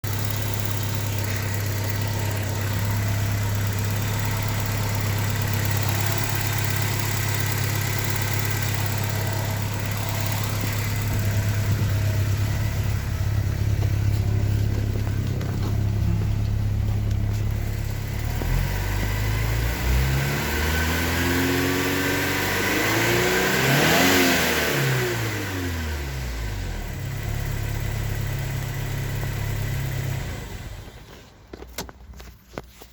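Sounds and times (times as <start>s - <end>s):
engine revving: 0.0s - 30.9s
car engine idling with ticking: 0.0s - 32.9s.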